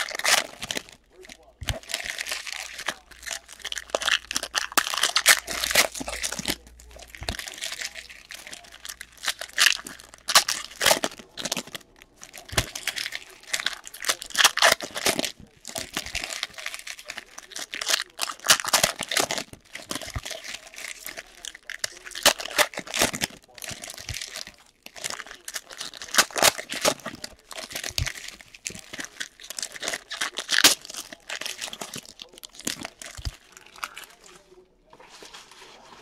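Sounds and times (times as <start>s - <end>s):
foil wrappers crinkling and tearing: 0.0s - 36.0s.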